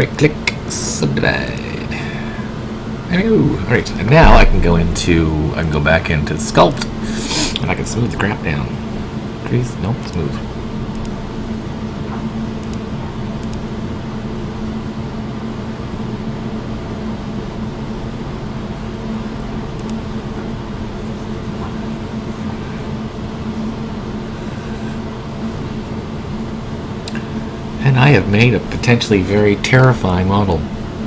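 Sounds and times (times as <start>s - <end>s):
mechanical hum: 0.0s - 31.0s.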